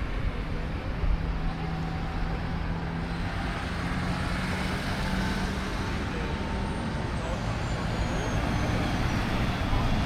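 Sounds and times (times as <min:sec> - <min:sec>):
street traffic noise: 0:00.0 - 0:10.0
vehicle engine hum: 0:00.0 - 0:10.0.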